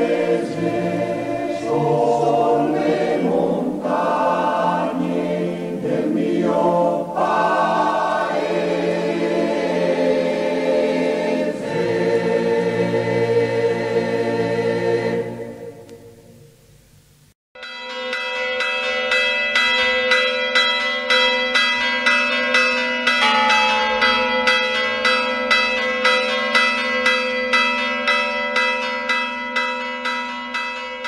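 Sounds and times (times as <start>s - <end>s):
church bells ringing: 0.0s - 15.5s, 17.6s - 31.0s.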